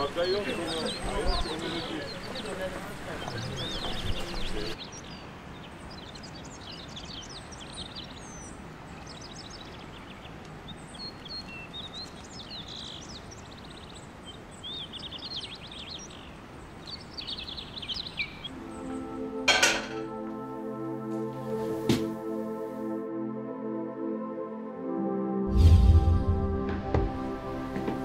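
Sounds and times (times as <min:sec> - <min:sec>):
birds chirping and twittering: 0:00.0 - 0:22.7
steady background hiss: 0:00.0 - 0:23.0.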